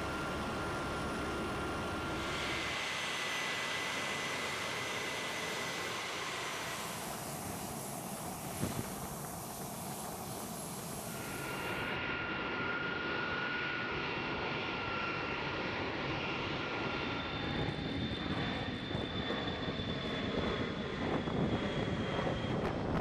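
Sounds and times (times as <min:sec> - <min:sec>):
jet engine whine: 0:00.0 - 0:23.0.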